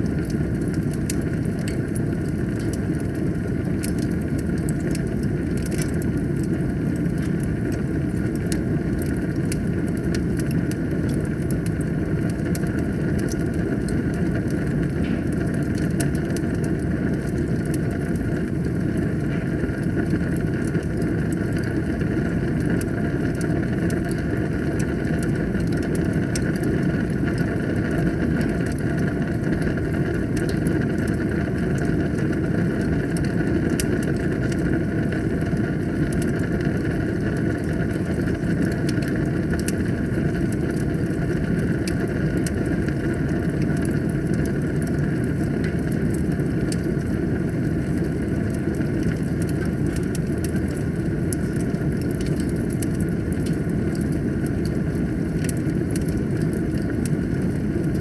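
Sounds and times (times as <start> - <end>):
fire crackling and popping: 0.0 - 58.0
roar of flames: 0.0 - 58.0.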